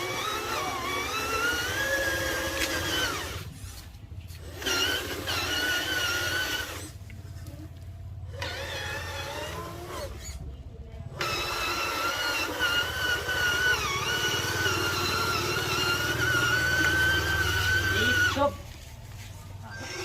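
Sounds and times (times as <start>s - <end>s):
toy truck electric motor whining: 0.0s - 3.8s, 4.4s - 7.1s, 8.2s - 10.5s, 11.1s - 18.6s, 19.6s - 20.0s.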